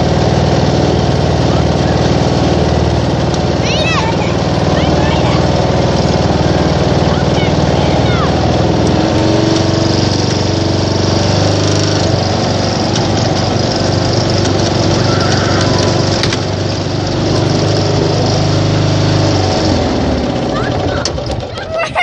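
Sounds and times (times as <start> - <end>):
riding lawn mower engine running: 0.0 - 22.0.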